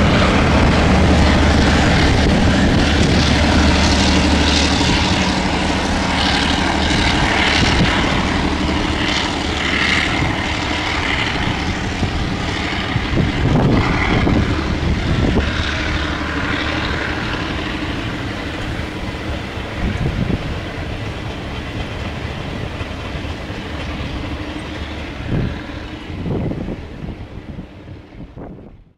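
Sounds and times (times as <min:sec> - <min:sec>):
train wheels clattering over rail joints: 0:00.0 - 0:28.1
diesel locomotive engine drone: 0:00.0 - 0:28.9.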